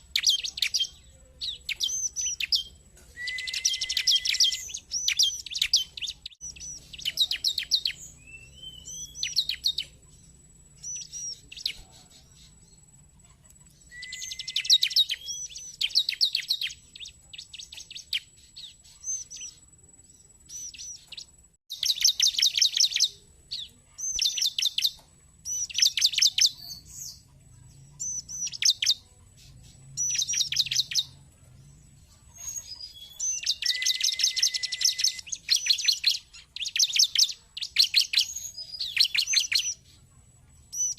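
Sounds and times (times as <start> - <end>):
bird singing sharp chirps: 0.0 - 12.9, 13.7 - 40.0, 40.6 - 40.9.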